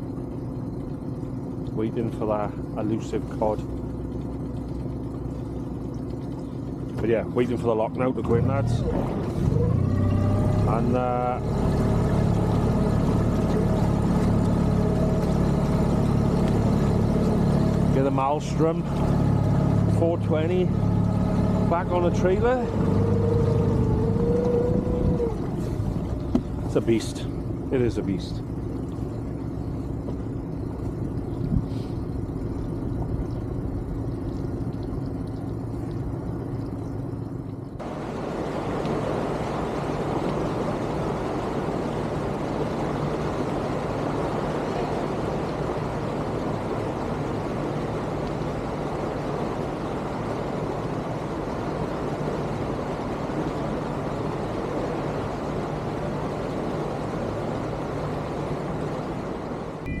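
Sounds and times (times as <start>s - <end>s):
rushing rumble: 0.0s - 60.0s
vehicle engine running: 0.0s - 60.0s.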